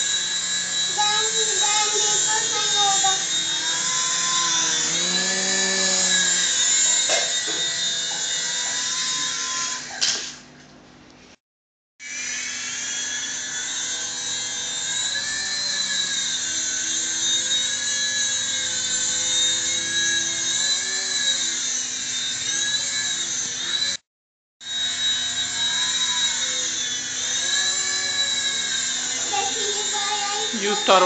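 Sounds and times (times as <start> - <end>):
toy helicopter motor whining: 0.0 - 10.4, 12.0 - 24.0, 24.6 - 31.0.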